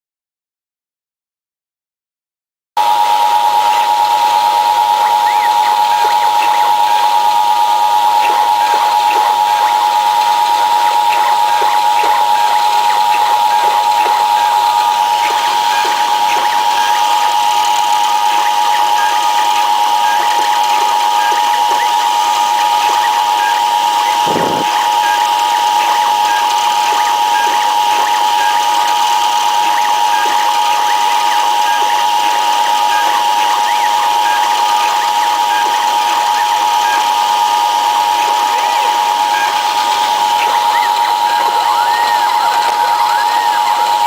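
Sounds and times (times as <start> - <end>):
milling machine whine: 2.8 - 44.0.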